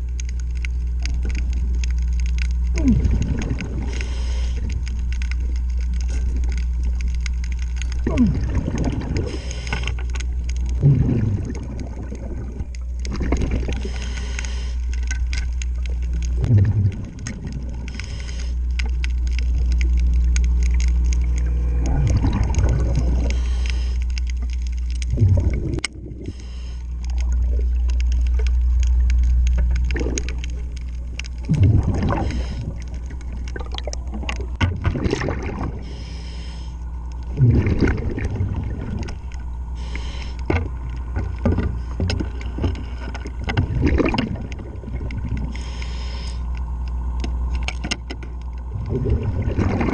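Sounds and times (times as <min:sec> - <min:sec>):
scuba bubbles gurgling: 0:00.0 - 0:49.9
underwater low rumble: 0:00.0 - 0:49.9.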